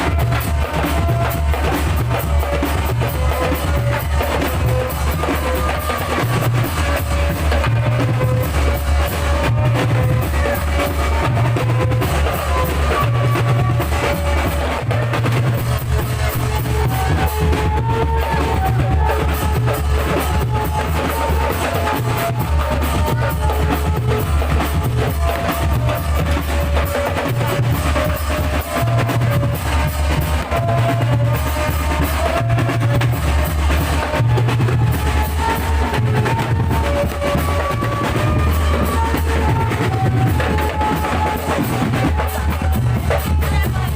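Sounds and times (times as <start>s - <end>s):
drum beat: 0.0s - 43.9s.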